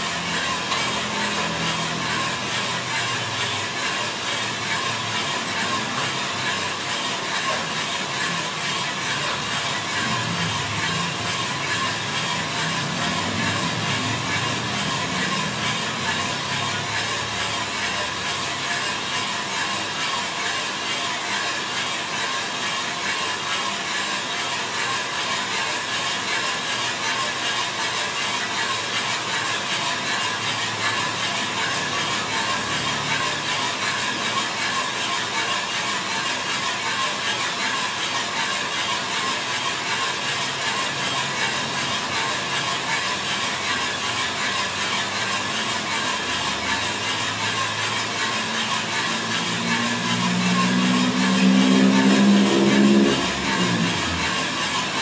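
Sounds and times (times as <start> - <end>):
coffee beans rattling in roaster drum: 0.0 - 55.0.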